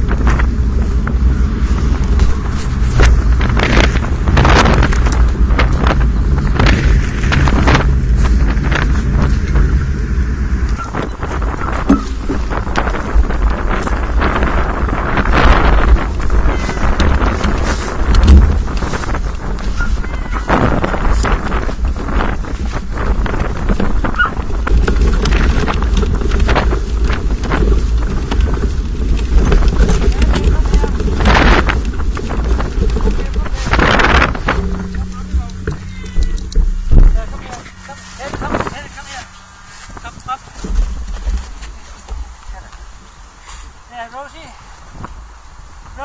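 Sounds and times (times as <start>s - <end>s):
stroller frame rattling: 0.0s - 43.2s
trailer rolling on pavement: 0.0s - 46.0s
wind buffeting microphone: 0.0s - 46.0s.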